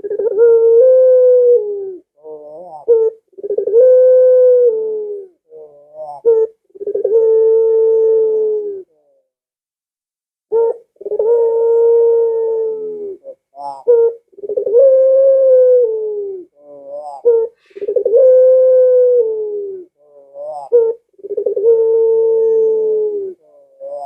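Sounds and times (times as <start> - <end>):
dove cooing: 0.0 - 9.3, 10.5 - 24.0.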